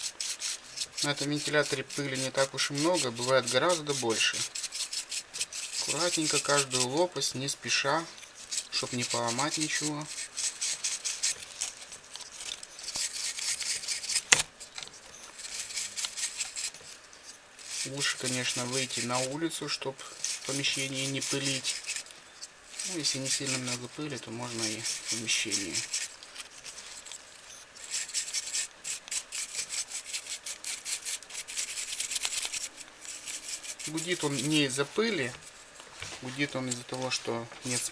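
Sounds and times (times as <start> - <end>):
small brush sweeping fan blades: 0.0 - 37.9.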